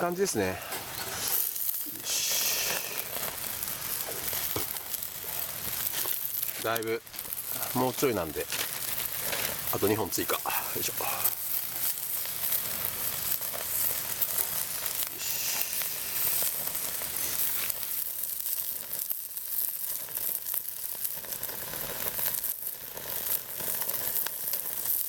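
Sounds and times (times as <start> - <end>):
chicken skin sizzling on grill: 0.0 - 25.0
small crackles: 0.0 - 25.0.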